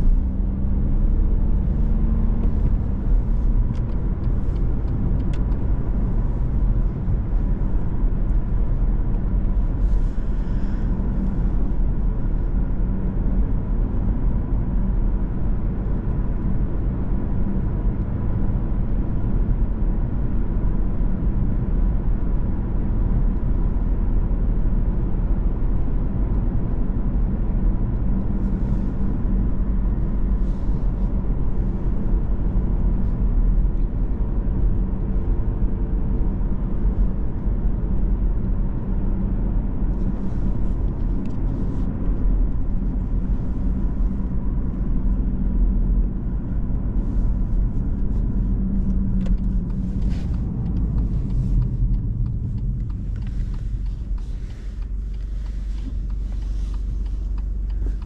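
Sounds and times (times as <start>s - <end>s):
tyre and road noise: 0.0s - 18.9s, 26.4s - 58.0s
car engine: 0.0s - 58.0s.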